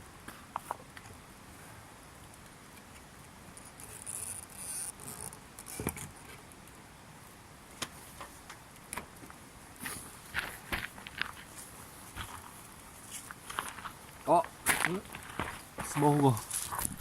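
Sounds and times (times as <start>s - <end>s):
campfire burning with crackling pops: 0.0s - 17.0s.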